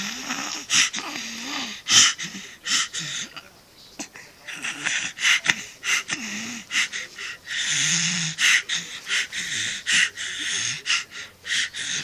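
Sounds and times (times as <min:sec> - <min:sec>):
baby growling: 0:00.0 - 0:03.4, 0:04.0 - 0:06.9, 0:07.6 - 0:12.0.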